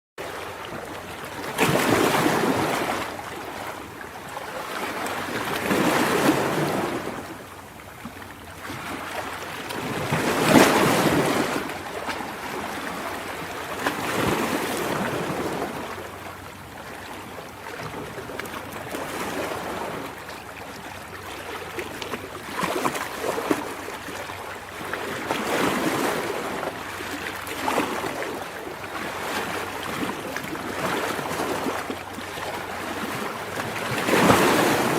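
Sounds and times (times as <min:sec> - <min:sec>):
ocean waves breaking: 0:00.2 - 0:34.9.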